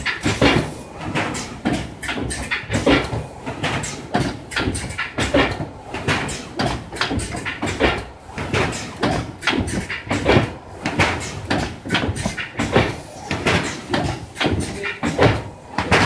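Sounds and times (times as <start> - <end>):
machine clacking and knocking: 0.0 - 16.0.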